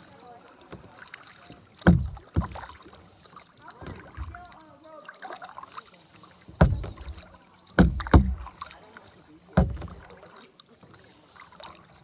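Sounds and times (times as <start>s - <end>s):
kayak paddle strokes: 0.0s - 11.6s.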